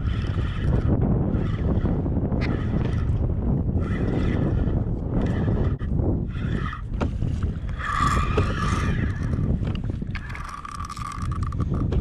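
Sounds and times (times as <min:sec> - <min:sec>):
choppy water: 0:00.0 - 0:12.0
fishing reel whirring: 0:00.0 - 0:12.0
wind buffeting microphone: 0:00.0 - 0:12.0.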